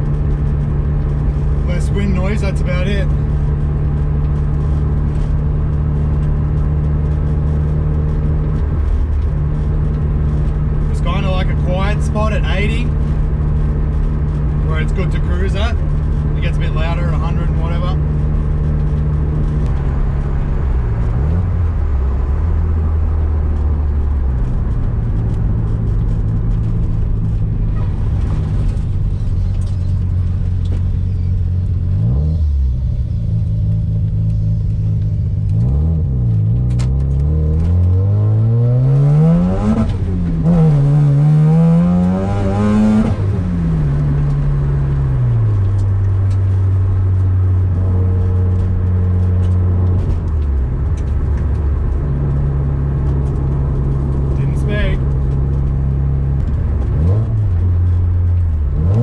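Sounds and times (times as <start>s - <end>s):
car engine from inside cabin: 0.0s - 59.0s.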